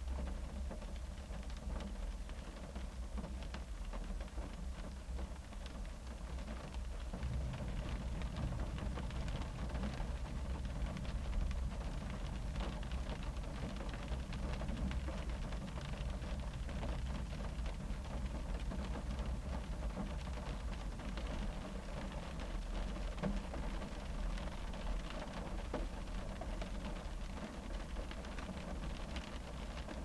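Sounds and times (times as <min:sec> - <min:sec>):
rain drumming on car roof: 0:00.0 - 0:30.0.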